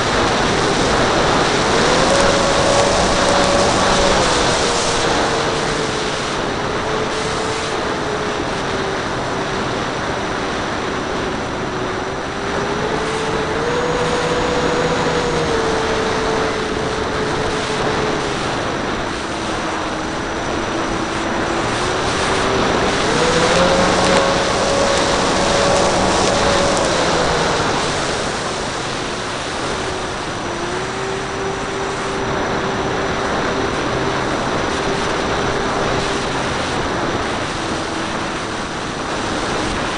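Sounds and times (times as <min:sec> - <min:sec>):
electric motor whine: 0:00.0 - 0:39.9
wind rushing across camera: 0:00.0 - 0:39.9.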